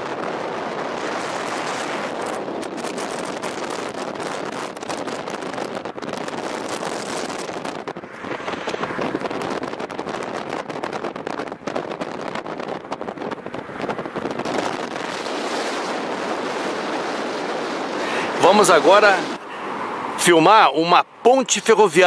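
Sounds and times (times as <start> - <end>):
wind buffeting microphone: 0.0 - 20.6
road and tyre noise: 0.0 - 22.0.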